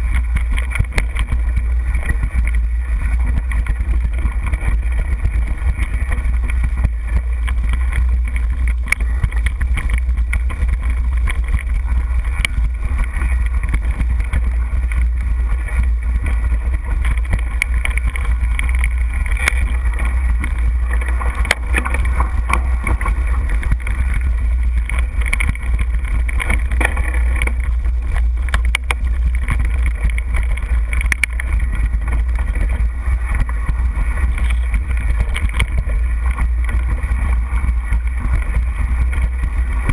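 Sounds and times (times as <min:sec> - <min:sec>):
mountain bike rattling and clicking: 0:00.0 - 0:39.9
wind rumble on microphone: 0:00.0 - 0:39.9.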